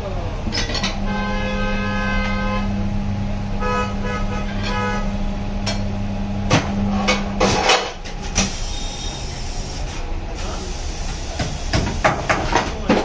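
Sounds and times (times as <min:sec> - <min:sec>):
tyre-changer machine humming: 0:00.0 - 0:11.8.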